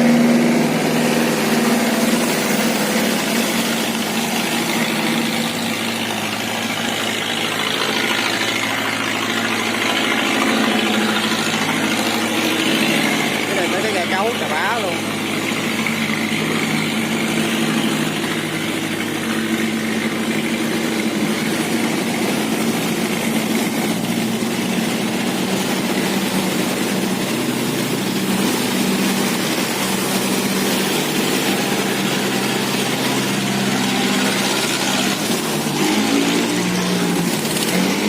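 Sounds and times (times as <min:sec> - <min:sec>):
motorboat engines droning: 0:00.0 - 0:38.0.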